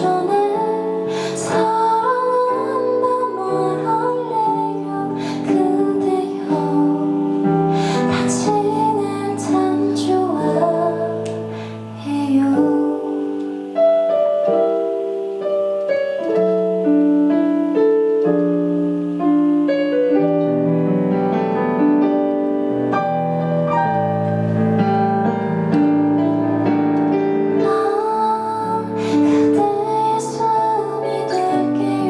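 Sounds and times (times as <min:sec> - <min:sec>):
slow piano ballad: 0:00.0 - 0:32.0.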